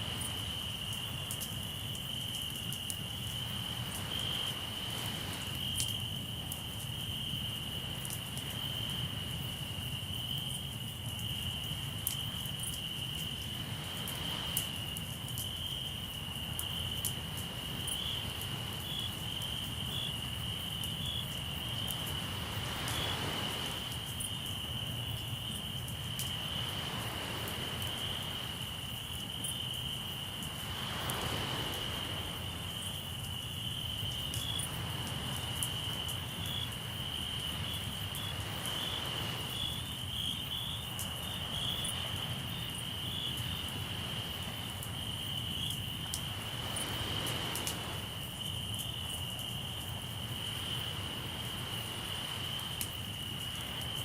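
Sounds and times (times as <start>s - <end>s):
waves washing ashore: 0.0s - 10.0s, 10.6s - 54.0s
campfire crackling: 0.0s - 54.0s
crickets chirping: 0.0s - 54.0s.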